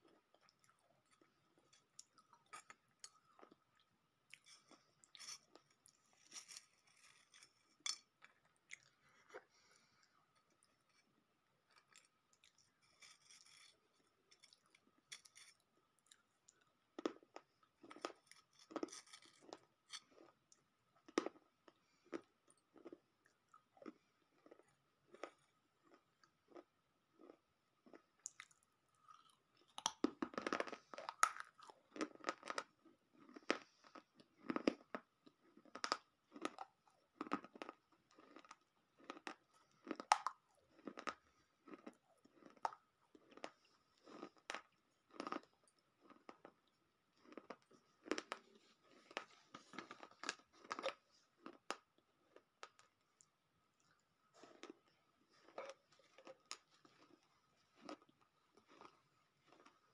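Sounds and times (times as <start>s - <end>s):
person chewing brittle clay: 0.0s - 59.9s.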